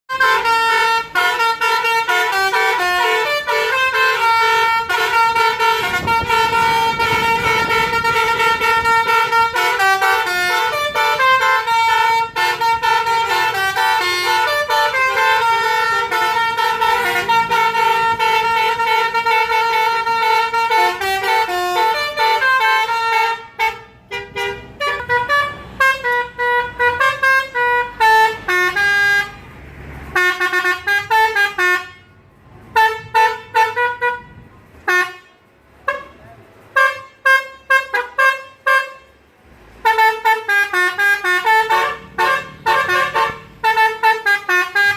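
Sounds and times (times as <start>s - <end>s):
musical bus horns playing melodies: 0.1s - 44.9s.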